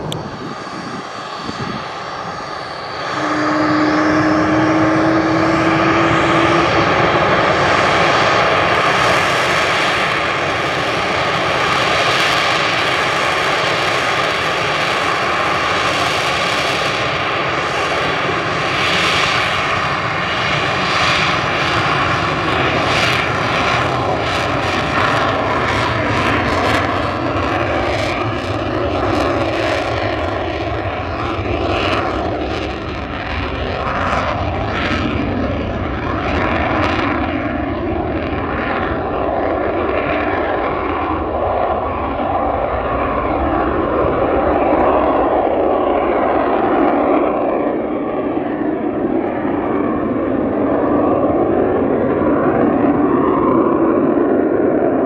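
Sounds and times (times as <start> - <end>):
jet engine roaring with whine: 0.0 - 55.0.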